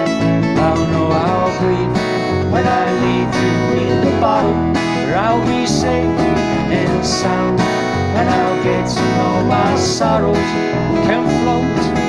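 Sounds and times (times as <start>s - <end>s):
country guitar instrumental: 0.0s - 12.0s.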